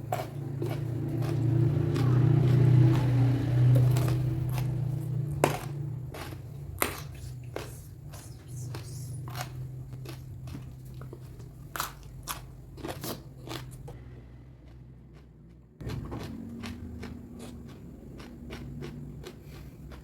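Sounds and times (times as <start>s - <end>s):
crunchy chewing: 0.0s - 14.0s, 14.6s - 20.0s.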